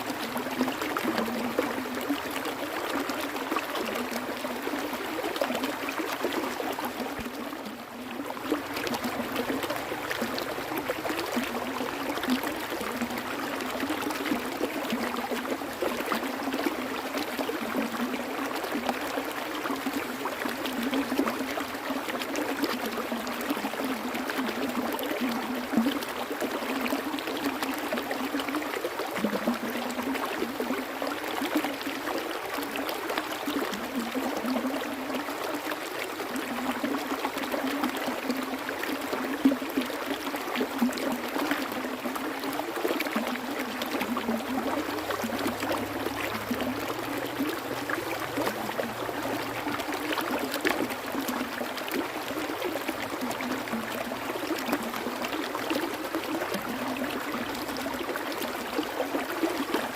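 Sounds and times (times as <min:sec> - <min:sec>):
small splashes and gurgles: 0:00.0 - 0:59.9
stream water rushing: 0:00.0 - 0:59.9.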